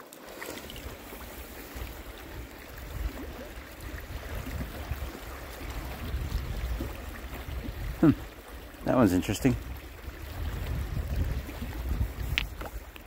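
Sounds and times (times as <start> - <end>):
water lapping among stones: 0.0 - 13.0
wind rumble on microphone: 0.7 - 13.0.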